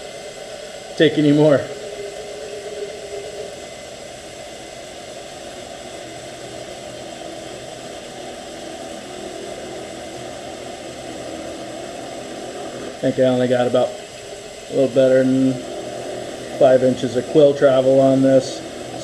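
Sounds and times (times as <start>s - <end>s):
drill press motor hum: 0.0s - 19.0s
faint drill whine: 0.0s - 19.0s.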